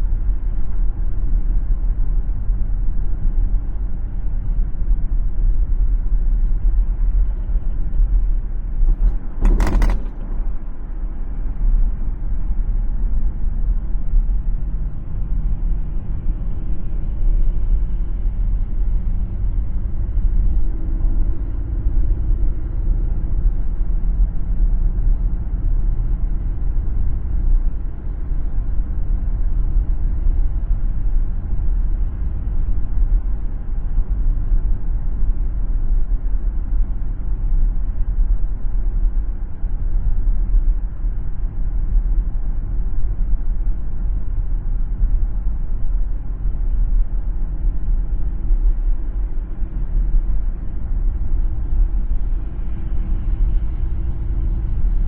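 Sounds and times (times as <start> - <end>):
car driving along a road: 0.0 - 55.0.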